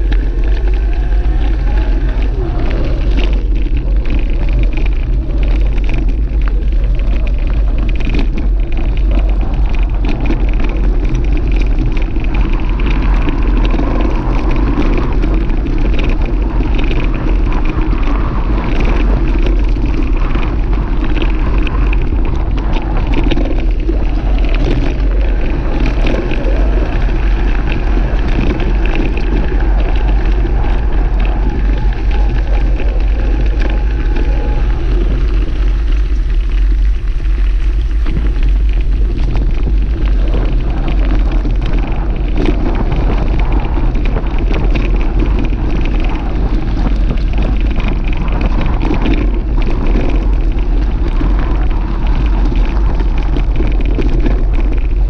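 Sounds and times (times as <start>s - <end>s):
rumble of riding on dirt track: 0.0s - 55.0s.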